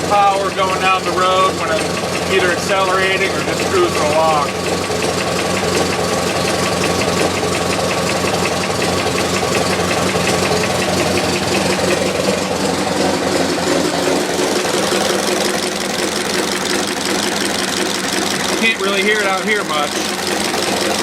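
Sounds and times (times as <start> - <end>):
car engine running with knock: 0.0 - 21.0.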